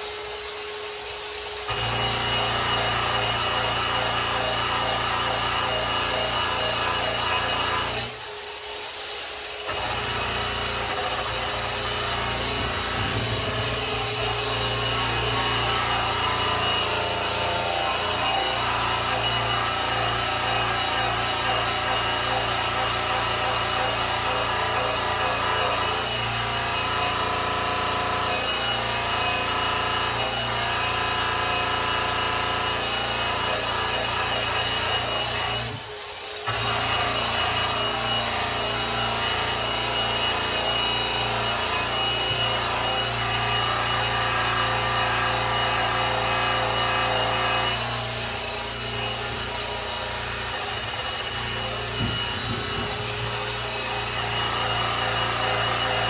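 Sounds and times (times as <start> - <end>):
electric polisher whining: 0.0 - 27.2, 29.6 - 56.0.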